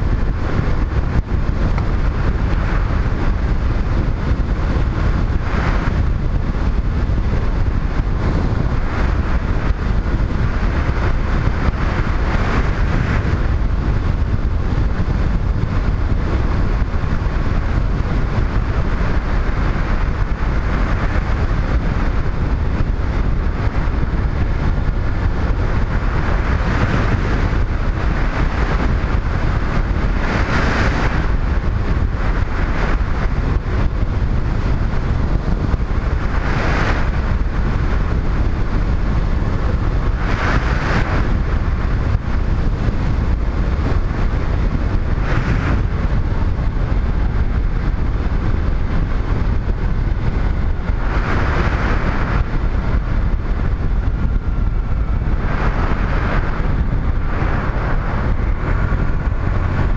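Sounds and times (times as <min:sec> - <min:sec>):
motorcycle engine and tyre noise: 0:00.0 - 0:59.9
wind rush on microphone: 0:00.0 - 0:59.9.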